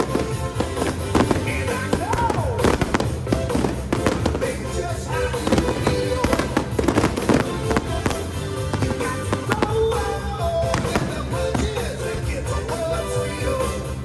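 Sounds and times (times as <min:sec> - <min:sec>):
fireworks bangs and pops: 0:00.0 - 0:14.0
loud music: 0:00.0 - 0:14.0.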